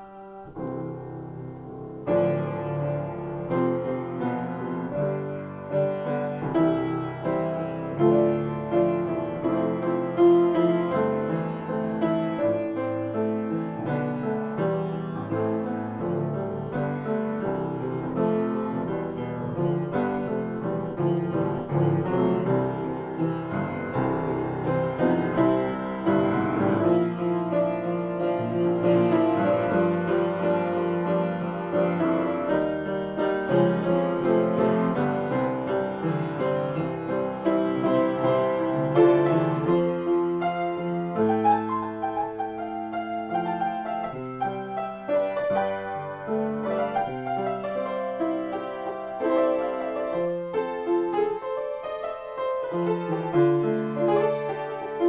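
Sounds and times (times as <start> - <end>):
upright piano improvisation: 0.0 - 55.0.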